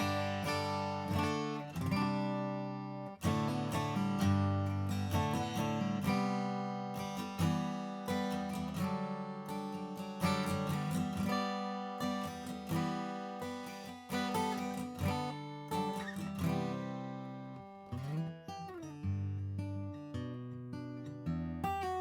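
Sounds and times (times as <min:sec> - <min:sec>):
acoustic guitar picked and strummed: 0:00.0 - 0:22.0.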